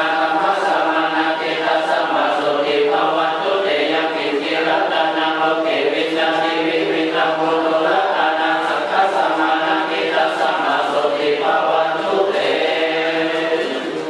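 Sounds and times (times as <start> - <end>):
group chanting in unison: 0.0 - 14.0.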